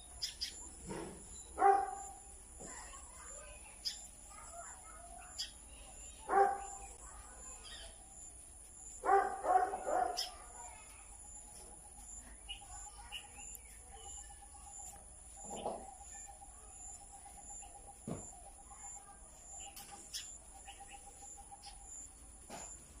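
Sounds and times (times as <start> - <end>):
high insect trill: 0.0 - 23.0
small birds chirping: 0.0 - 23.0.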